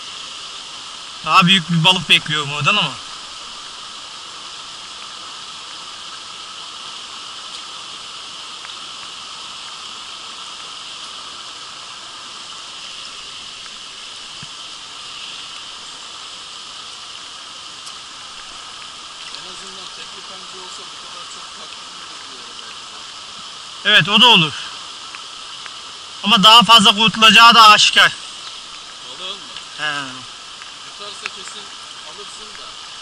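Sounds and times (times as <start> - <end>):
creek running over stones: 0.0 - 33.0
rain falling: 0.0 - 33.0.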